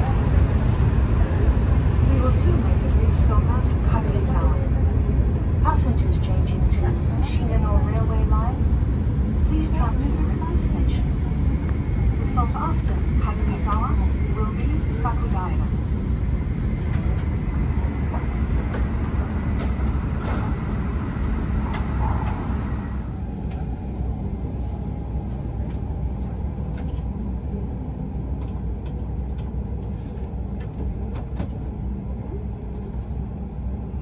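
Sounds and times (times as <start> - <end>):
train cabin rumble: 0.0 - 34.0.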